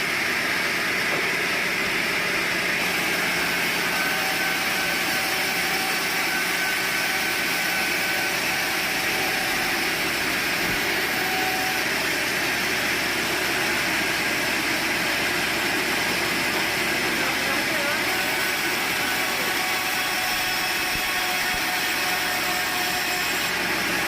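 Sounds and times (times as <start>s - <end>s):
sawmill machinery running: 0.0s - 24.0s.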